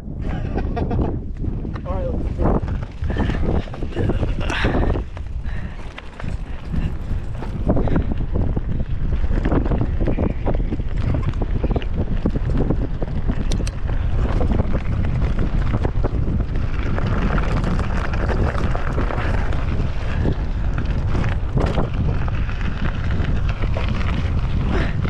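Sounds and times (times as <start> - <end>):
tyres rumbling on dirt trail: 0.0 - 25.0
wind buffeting microphone: 0.0 - 25.0
bike clicks and rattles: 0.3 - 25.0.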